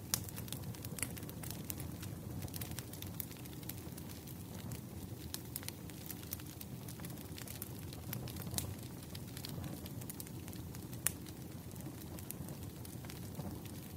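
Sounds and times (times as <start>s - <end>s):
firewood crackling and popping: 0.0s - 13.9s
flames rumbling: 0.0s - 13.9s.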